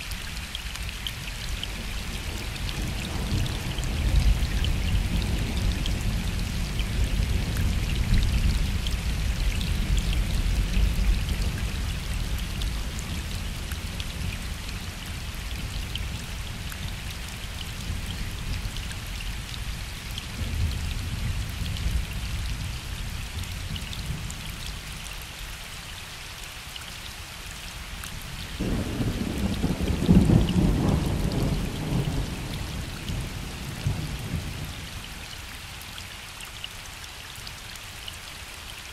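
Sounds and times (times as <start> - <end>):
rain falling on a lake: 0.0 - 38.9.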